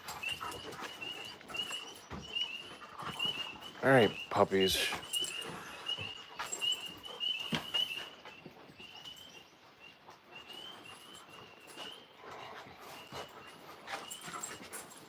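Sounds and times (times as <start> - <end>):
dogs moving about: 0.0 - 15.0.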